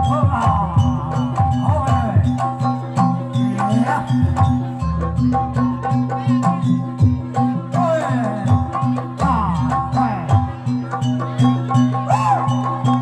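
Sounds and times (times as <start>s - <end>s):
gong and metallophone notes: 0.0s - 13.0s
rapid hand-drum strokes: 0.0s - 13.0s.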